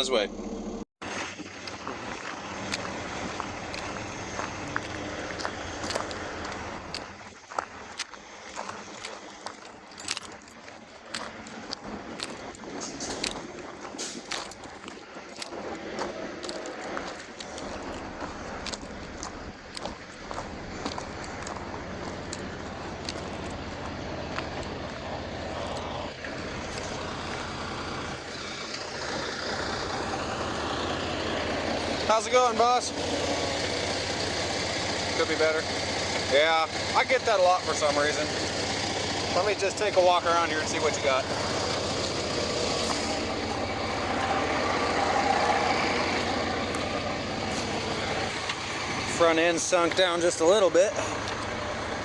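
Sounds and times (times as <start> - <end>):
truck diesel engine idling: 1.4 - 7.5, 15.6 - 52.0.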